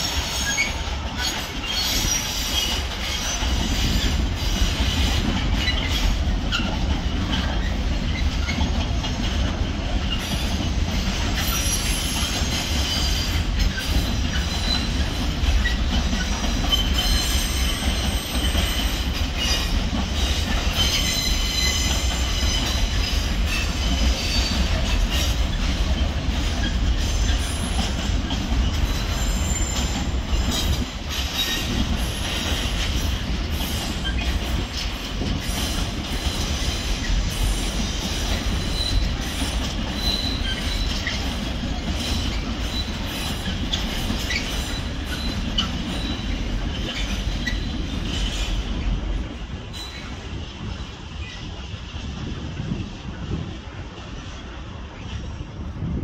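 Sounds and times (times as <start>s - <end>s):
train wheel squeal: 0.0s - 51.8s
freight train rumbling past: 0.0s - 56.0s.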